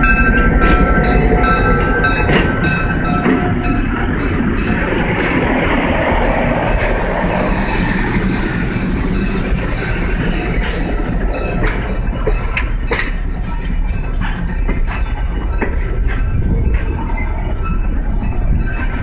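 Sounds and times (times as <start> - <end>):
sharp train clacks: 0.0 - 19.0
train wheels squealing on rails: 0.0 - 19.0.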